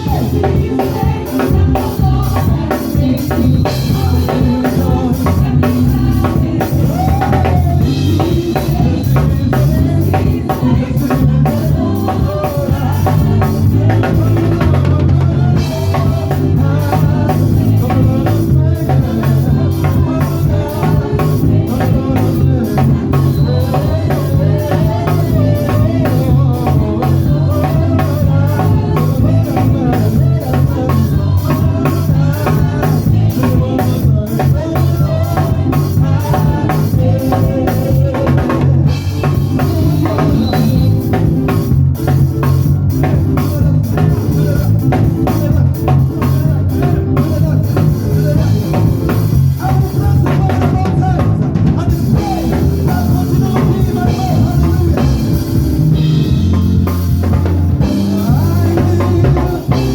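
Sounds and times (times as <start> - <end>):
drum kit: 0.0 - 59.9
heavy bass line: 0.0 - 59.9
worship band playing: 0.0 - 59.9.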